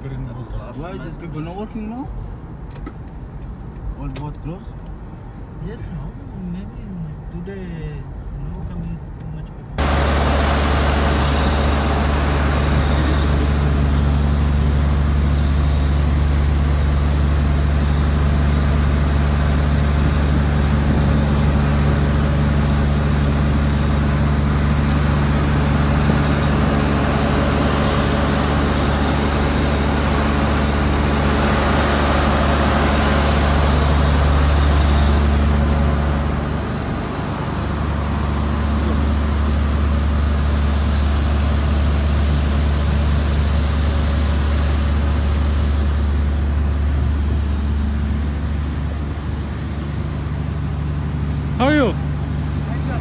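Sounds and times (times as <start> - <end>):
engine low drone: 0.0 - 53.0.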